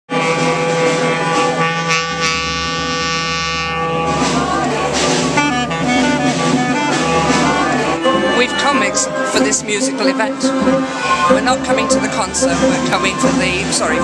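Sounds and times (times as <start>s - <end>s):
clarinet playing: 0.1s - 14.0s.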